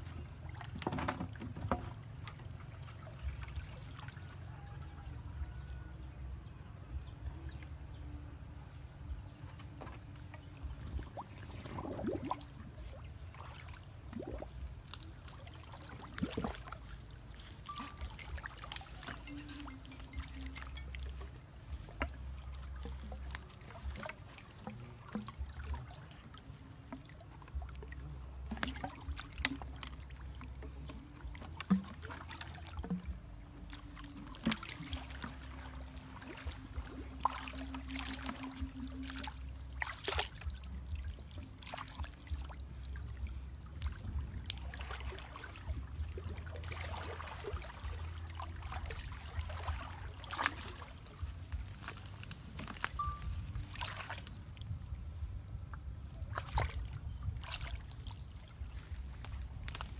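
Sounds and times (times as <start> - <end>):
small splashes and knocks: 0.0 - 5.0, 9.3 - 59.9
creek water sloshing and trickling: 0.0 - 59.9
low steady rumble: 1.4 - 59.9.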